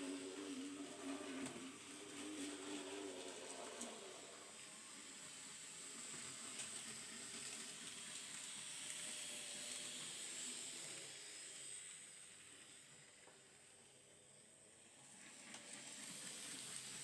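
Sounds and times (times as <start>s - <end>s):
model train motor whine: 0.0s - 17.0s.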